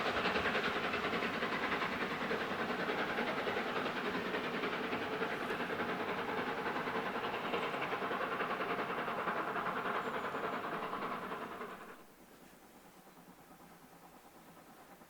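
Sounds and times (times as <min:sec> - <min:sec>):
steam train running: 0:00.0 - 0:15.0.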